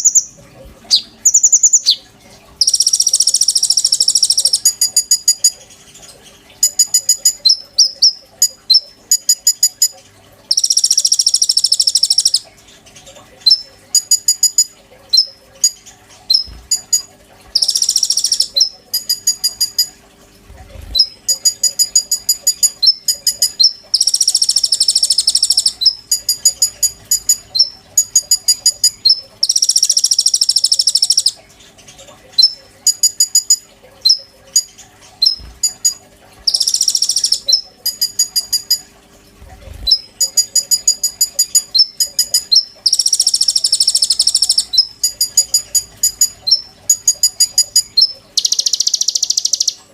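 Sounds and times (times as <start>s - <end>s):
bird singing ticks and trills: 0.0s - 49.9s.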